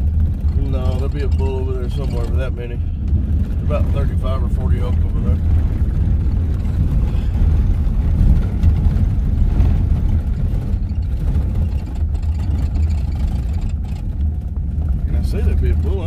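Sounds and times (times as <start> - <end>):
road noise: 0.0 - 16.0
vehicle engine rumble: 0.0 - 16.0.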